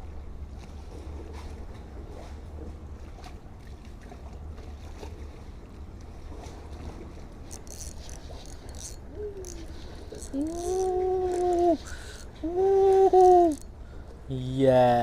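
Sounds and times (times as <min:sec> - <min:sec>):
small boat rumble and hiss: 0:00.0 - 0:15.0.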